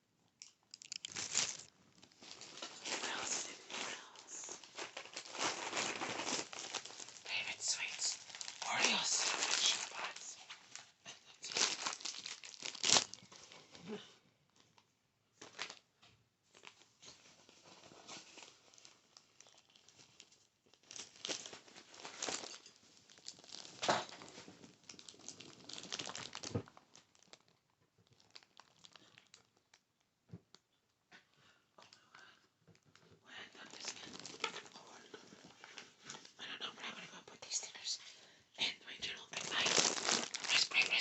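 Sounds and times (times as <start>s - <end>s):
objects crinkling and rustling: 0.3s - 37.0s, 39.1s - 41.0s.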